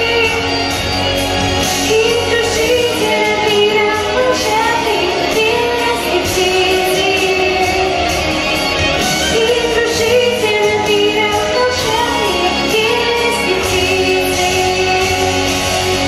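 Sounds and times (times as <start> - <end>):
girl singing pop song: 0.0 - 16.0
instrumental backing track: 0.0 - 16.0.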